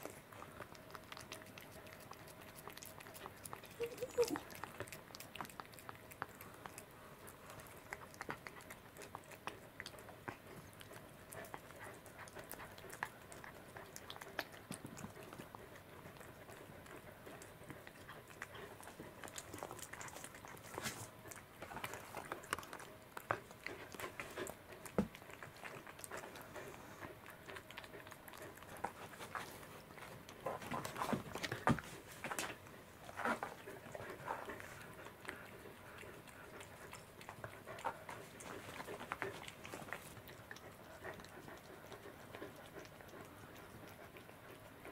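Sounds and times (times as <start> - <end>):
cat chewing food: 0.0 - 44.9.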